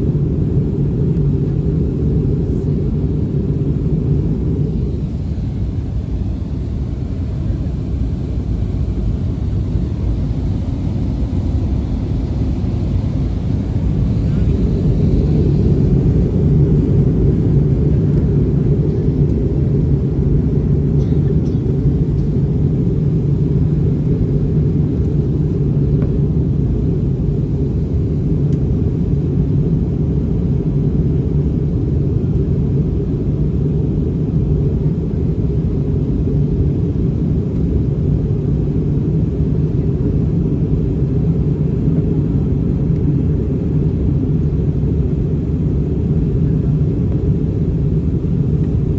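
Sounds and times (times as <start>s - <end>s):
airliner cabin engine rumble: 0.0s - 48.9s.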